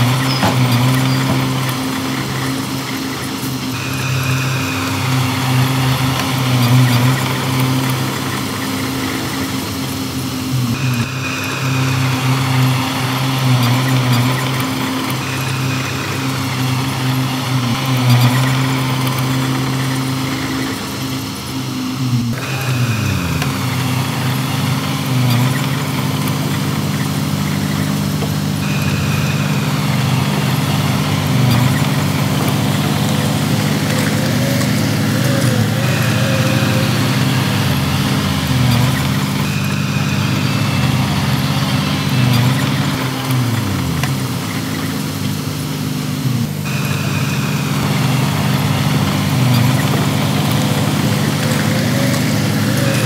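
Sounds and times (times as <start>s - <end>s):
faint high whine: 0.0s - 53.0s
heavy diesel engine running: 0.0s - 53.0s.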